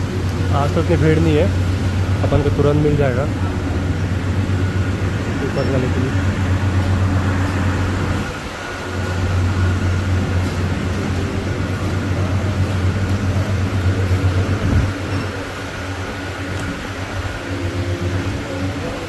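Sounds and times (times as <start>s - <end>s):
faint high whine: 0.0s - 19.0s
low mechanical hum: 0.0s - 19.0s.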